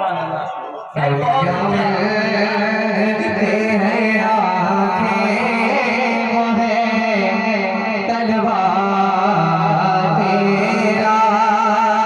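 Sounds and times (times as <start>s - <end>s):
man singing devotional poem: 0.0s - 12.0s.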